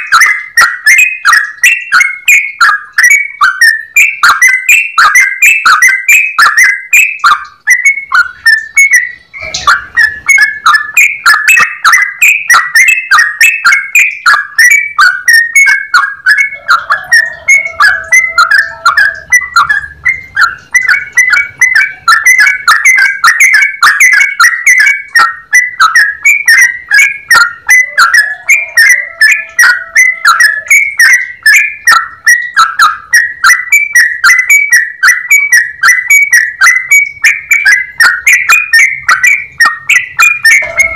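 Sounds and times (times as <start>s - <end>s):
bird singing rapid chirps: 0.0s - 40.9s.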